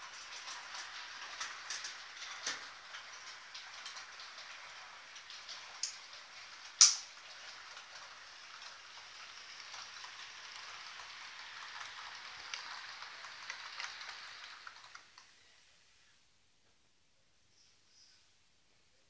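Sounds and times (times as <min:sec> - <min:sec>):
model trains running on track: 0:00.0 - 0:15.5.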